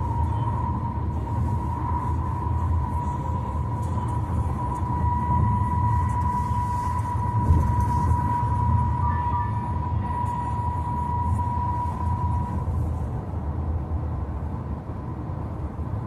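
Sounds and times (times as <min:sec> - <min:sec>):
constant high whine: 0:00.0 - 0:16.0
road and tyre rumble: 0:00.0 - 0:16.0.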